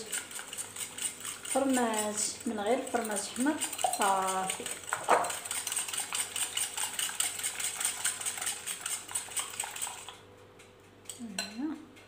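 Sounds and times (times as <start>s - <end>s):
whisk clicking against bowl: 0.0s - 10.2s.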